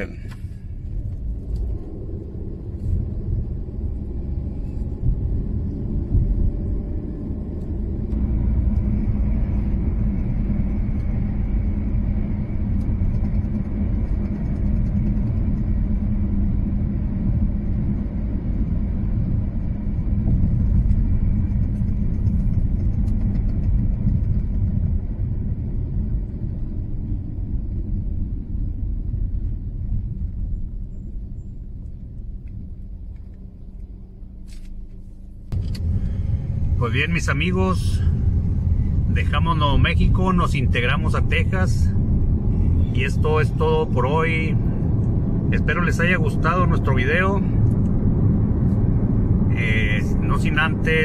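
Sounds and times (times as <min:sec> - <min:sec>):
car cabin road rumble: 0:00.0 - 0:51.0.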